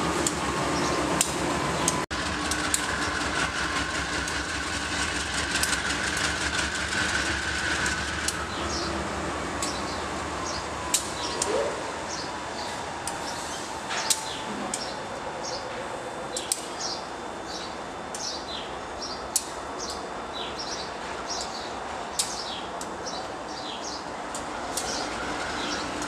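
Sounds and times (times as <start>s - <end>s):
freight train rumble: 0.0s - 26.0s.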